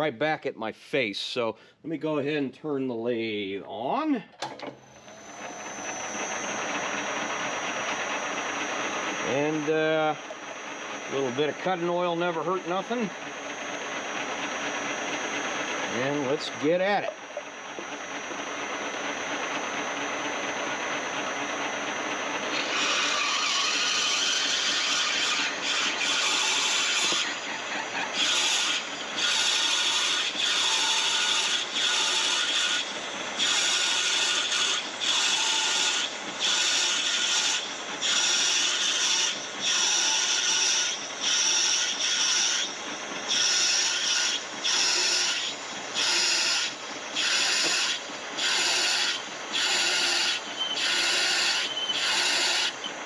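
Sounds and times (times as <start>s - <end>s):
drill rasping into metal on lathe: 5.1s - 17.1s, 17.7s - 52.9s.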